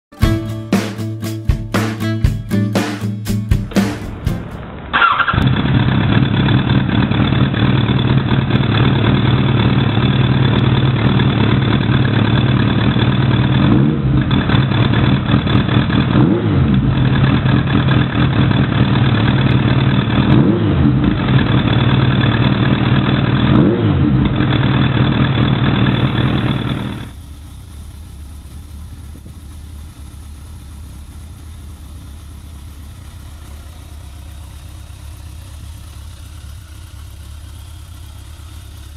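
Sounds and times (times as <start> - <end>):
motorcycle engine running: 0.0 - 38.9
engine throttle blips: 1.8 - 38.9.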